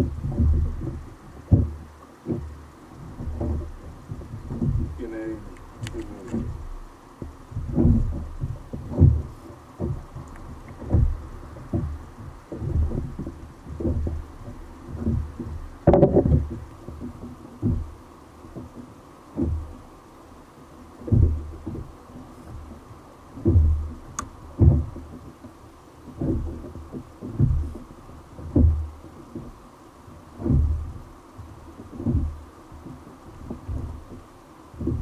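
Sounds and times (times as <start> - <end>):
water knocking against kayak hull: 0.0 - 35.0.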